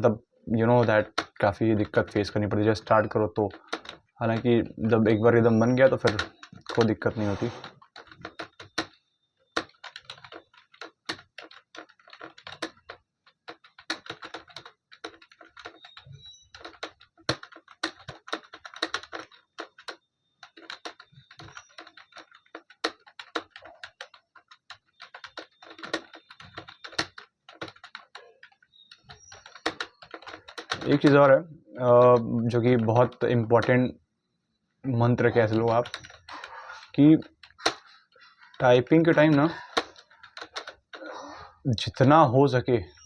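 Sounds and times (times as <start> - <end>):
rapid keyboard typing: 0.0 - 33.9, 34.8 - 43.0.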